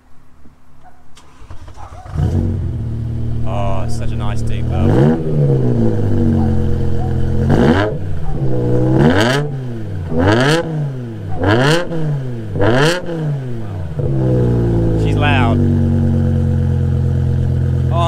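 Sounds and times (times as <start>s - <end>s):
loud car engine idling and revving: 1.5s - 18.0s.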